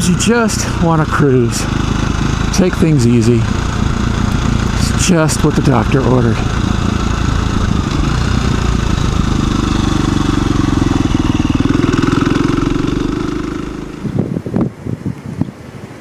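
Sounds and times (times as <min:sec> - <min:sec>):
motorcycle engine cruising: 0:00.0 - 0:14.8
wind buffeting microphone: 0:01.1 - 0:16.0.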